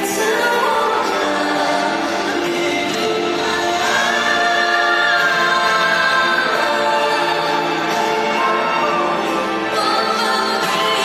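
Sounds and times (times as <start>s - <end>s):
choir and full band: 0.0s - 11.0s.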